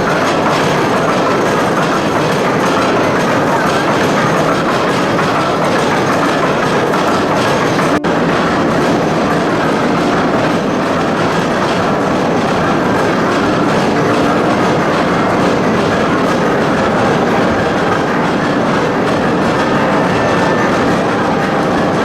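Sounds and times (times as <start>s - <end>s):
steam machinery clattering: 0.0s - 22.0s.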